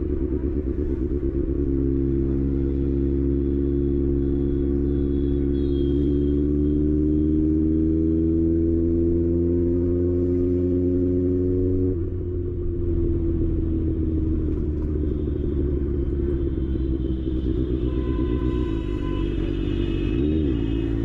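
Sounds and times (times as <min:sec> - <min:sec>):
motorcycle engine rumbling: 0:00.0 - 0:07.8, 0:09.0 - 0:21.0
road traffic: 0:00.0 - 0:21.0.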